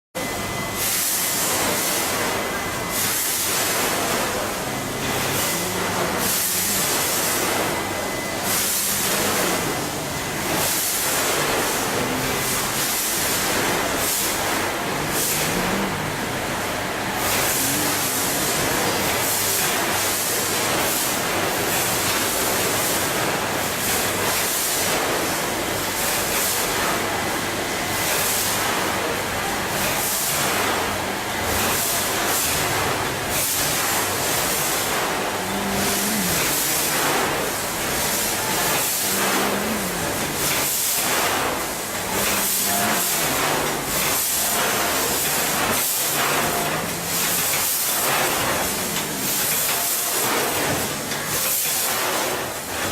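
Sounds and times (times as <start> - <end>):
packaging machine running: 0.2 - 52.9.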